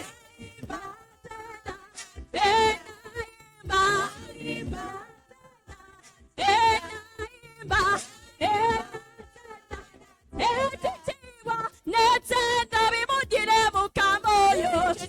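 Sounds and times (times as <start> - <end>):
person singing worship song: 0.0 - 15.0.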